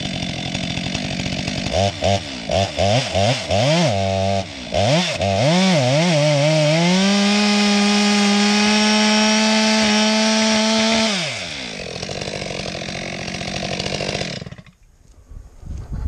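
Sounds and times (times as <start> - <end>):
chainsaw revving and cutting wood: 0.0 - 14.8.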